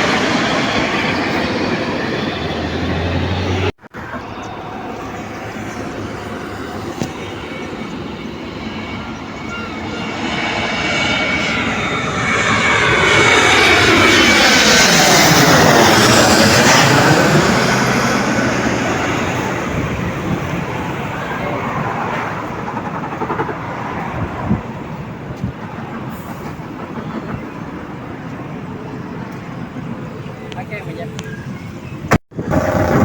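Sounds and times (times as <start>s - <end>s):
airliner engines passing by: 0.0s - 33.0s.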